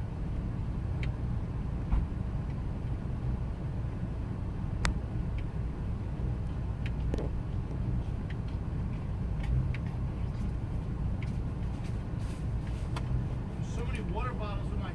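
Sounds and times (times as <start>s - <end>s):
engine idling roughly with ticks: 0.0s - 4.1s, 4.7s - 14.9s.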